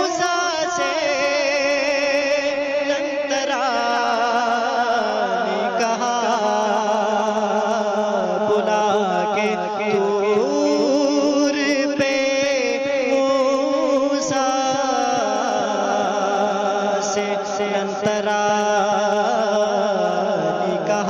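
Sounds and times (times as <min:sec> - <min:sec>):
person singing devotional song: 0:00.0 - 0:21.0.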